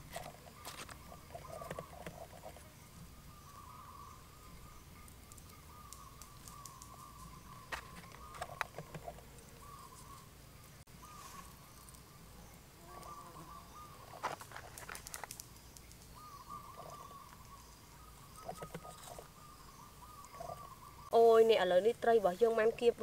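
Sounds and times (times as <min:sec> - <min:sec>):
bird calling: 0:00.0 - 0:23.0.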